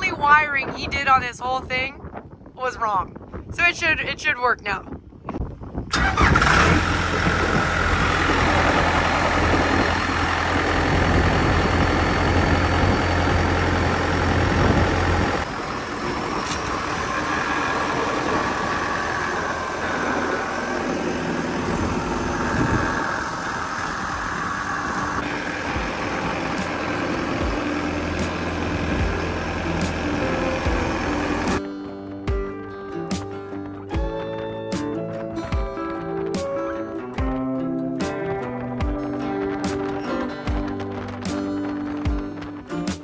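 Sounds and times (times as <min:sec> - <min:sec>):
deep engine hum: 0:05.8 - 0:31.6, 0:33.9 - 0:43.0.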